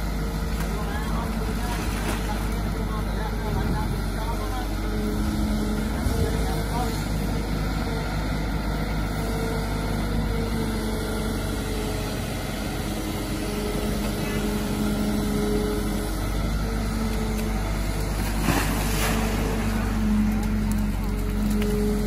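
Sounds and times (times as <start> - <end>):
excavator diesel engine working: 0.0 - 22.0.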